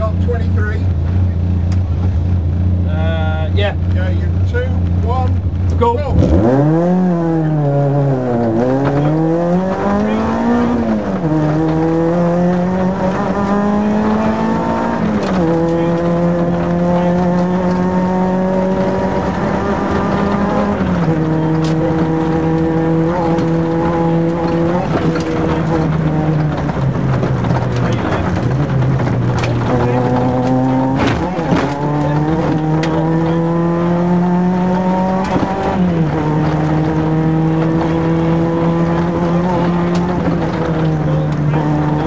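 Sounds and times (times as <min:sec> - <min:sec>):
car engine accelerating through gears: 0:00.0 - 0:42.0.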